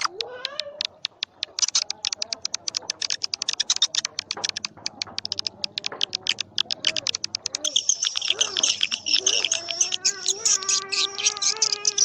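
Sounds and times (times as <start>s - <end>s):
high twittering bird chirps: 0.0s - 12.0s
lower warbling bird calls: 0.0s - 12.0s.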